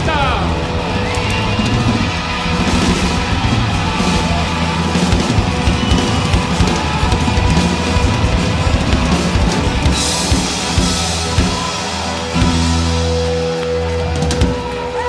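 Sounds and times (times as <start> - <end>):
heavy rock band playing: 0.0 - 15.0.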